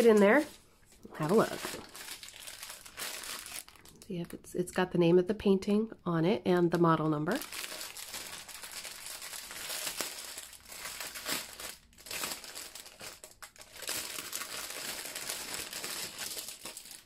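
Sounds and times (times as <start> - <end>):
plastic bag crinkling: 0.0 - 4.1, 7.3 - 17.0.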